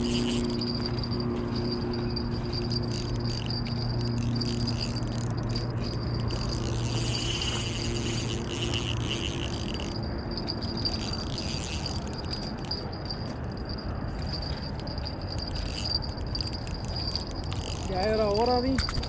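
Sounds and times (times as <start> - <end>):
fishing reel clicking: 0.0 - 19.0
low rumbling noise: 0.0 - 19.0
steady high-pitched tone: 0.0 - 19.0.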